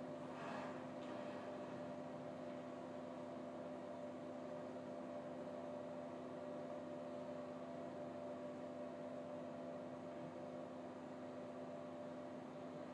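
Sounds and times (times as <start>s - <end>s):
faint electrical hum: 0.0s - 12.9s.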